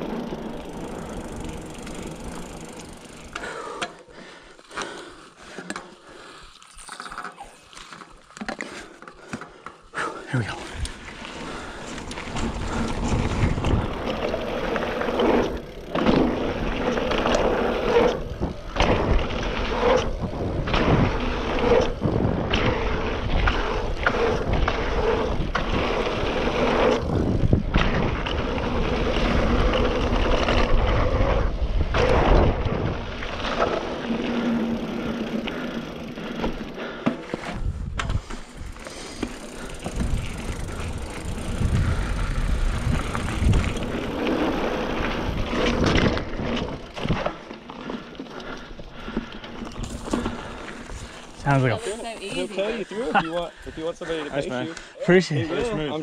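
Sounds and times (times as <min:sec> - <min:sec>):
bike rattling over bumps: 0:00.0 - 0:09.8, 0:10.5 - 0:54.7
bike tyres crunching over dirt: 0:00.0 - 0:56.0.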